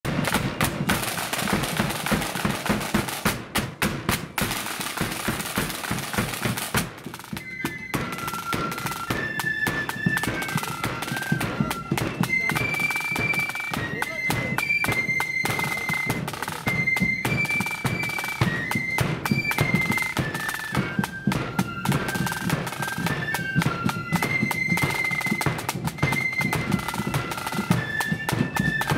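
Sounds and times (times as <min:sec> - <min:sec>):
flutes playing high tune: 0:00.1 - 0:28.9
side drums and bass drum: 0:00.1 - 0:28.9.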